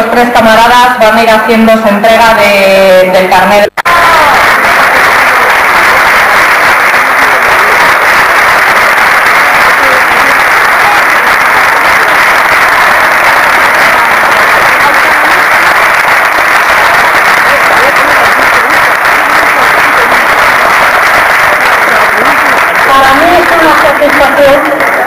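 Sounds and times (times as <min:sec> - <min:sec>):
audience applauding: 0:03.8 - 0:25.0.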